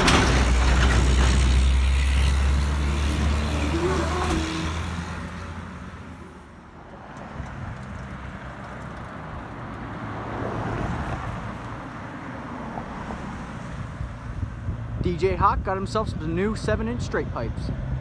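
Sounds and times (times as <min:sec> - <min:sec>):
vehicle passing: 0:00.0 - 0:15.0
truck engine rumble: 0:00.0 - 0:18.0.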